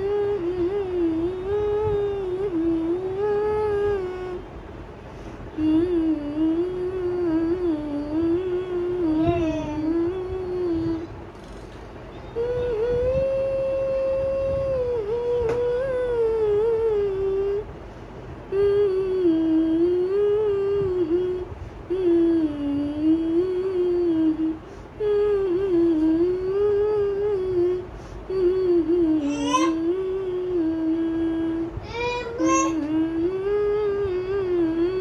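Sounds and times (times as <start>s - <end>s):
woman humming a tune: 0.0s - 4.5s, 5.5s - 11.1s, 12.3s - 17.7s, 18.5s - 35.0s.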